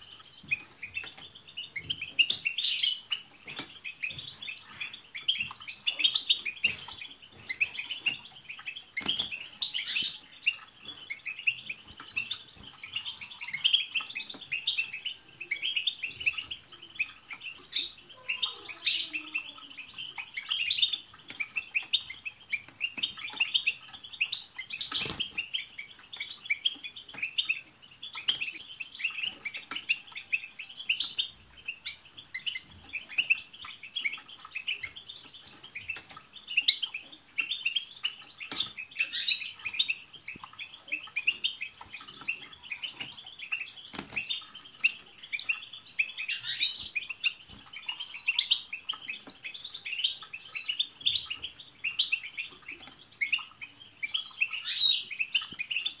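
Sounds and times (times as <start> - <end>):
goldfinches twittering: 0.0 - 56.0.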